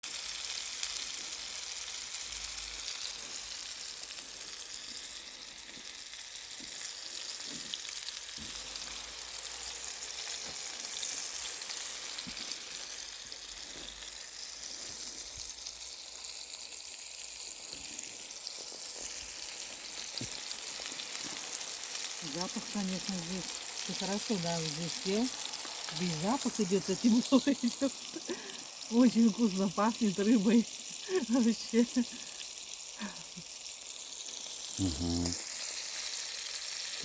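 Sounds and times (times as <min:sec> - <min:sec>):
fish sizzling in frying: 0:00.0 - 0:37.0.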